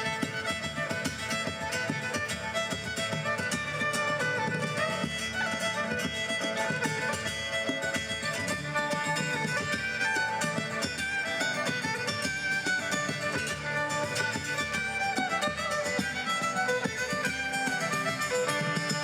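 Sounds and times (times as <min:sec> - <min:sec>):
fiddle melody: 0:00.0 - 0:19.0
folk band playing: 0:00.0 - 0:19.0.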